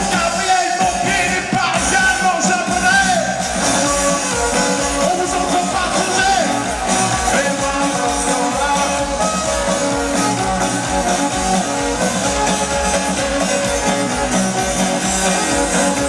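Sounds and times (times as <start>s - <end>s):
accordion: 0.0s - 16.0s
drums: 0.0s - 16.0s.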